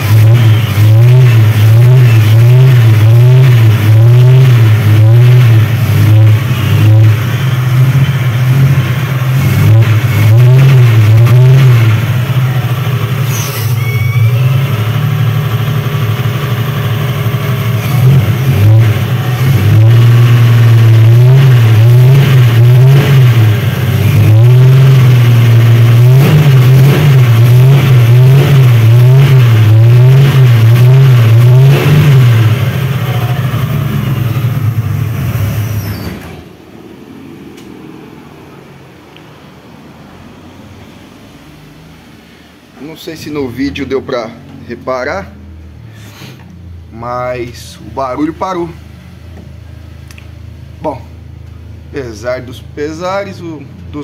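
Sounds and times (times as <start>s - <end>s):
car engine with pulsing noise: 0.0s - 54.0s.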